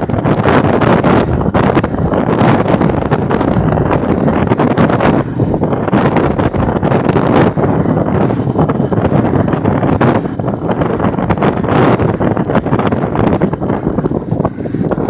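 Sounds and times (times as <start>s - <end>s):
motorcycle engine: 0.0s - 15.0s
tyres on loose dirt: 0.0s - 15.0s
wind buffeting on microphone: 0.0s - 15.0s.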